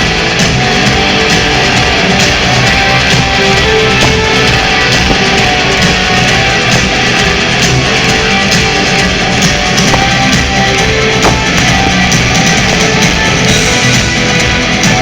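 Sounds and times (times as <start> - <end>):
bass guitar: 0.0 - 15.0
drums: 0.0 - 15.0.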